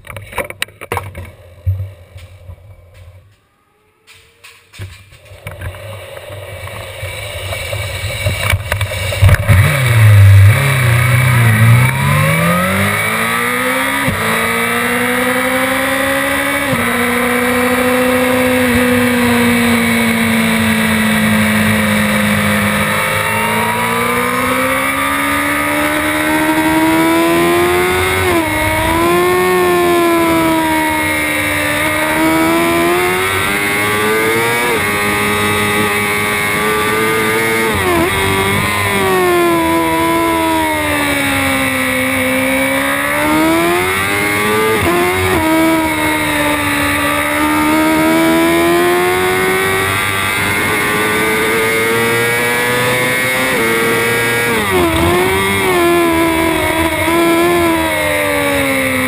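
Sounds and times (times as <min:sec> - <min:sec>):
motorcycle engine revving: 0:01.0 - 0:59.0.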